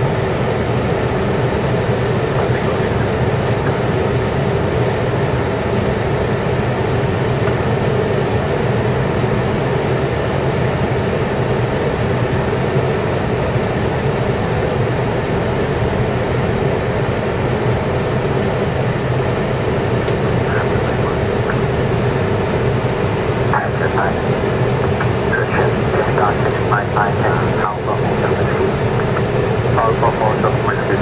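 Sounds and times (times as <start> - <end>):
low hum of jet engines: 0.0 - 31.0
rush of air over cockpit: 0.0 - 31.0.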